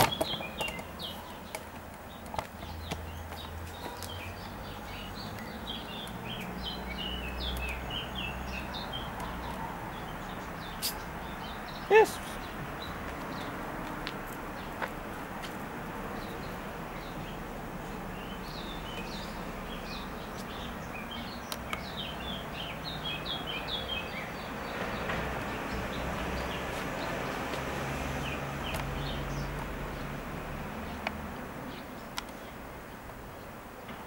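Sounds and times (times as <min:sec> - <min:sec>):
outdoor background noise: 0:00.0 - 0:34.0
small birds chirping: 0:00.0 - 0:34.0.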